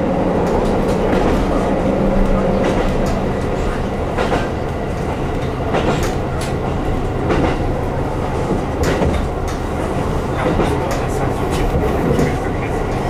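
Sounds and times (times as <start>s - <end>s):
diesel railcar engine drone: 0.0s - 13.0s.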